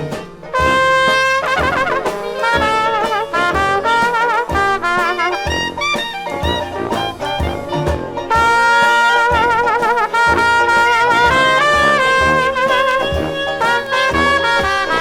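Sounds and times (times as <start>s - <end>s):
jazz band playing: 0.0s - 15.0s
steady drum beat: 0.0s - 15.0s
trumpet: 0.0s - 15.0s.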